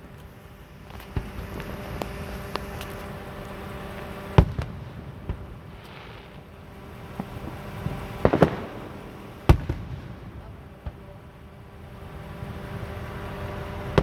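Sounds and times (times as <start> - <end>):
lighter fireworks pops: 0.0 - 11.4
fireworks bangs: 0.0 - 14.0.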